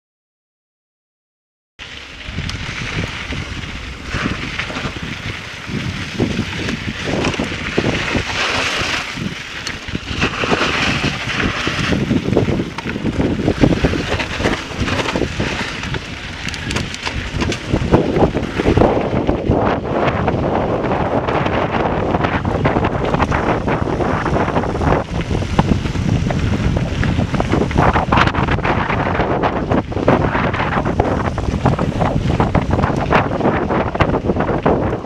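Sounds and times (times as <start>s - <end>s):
bike tyres crunching on gravel: 1.8s - 35.0s
wind buffeting microphone: 2.0s - 35.0s
bike knocks and rattles: 3.0s - 35.0s.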